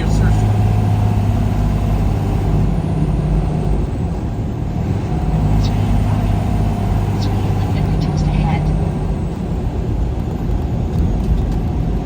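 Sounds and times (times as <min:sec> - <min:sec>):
road and tyre noise: 0:00.0 - 0:12.0
truck engine hum: 0:00.0 - 0:12.0.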